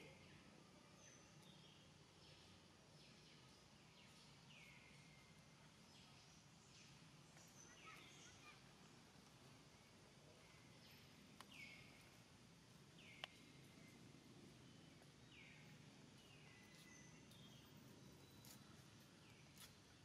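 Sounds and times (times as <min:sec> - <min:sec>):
faint forest background: 0:00.0 - 0:20.0.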